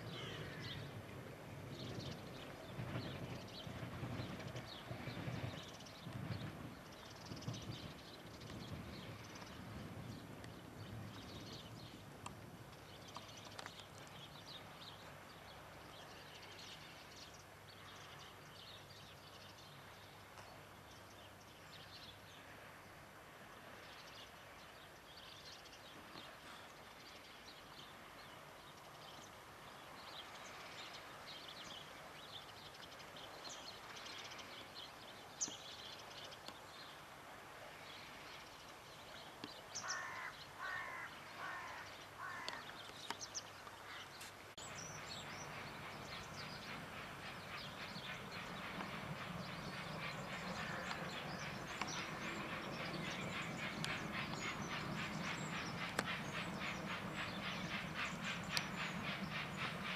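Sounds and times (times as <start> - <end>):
distant train rumble: 0.0 - 13.0, 19.3 - 59.9.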